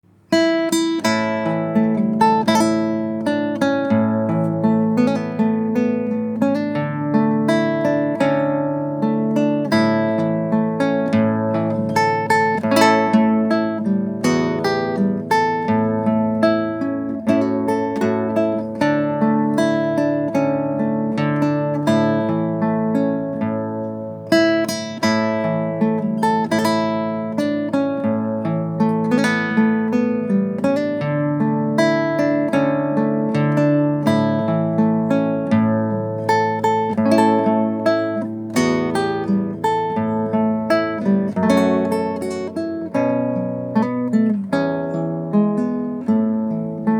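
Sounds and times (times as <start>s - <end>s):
acoustic guitar playing: 0.0s - 46.9s.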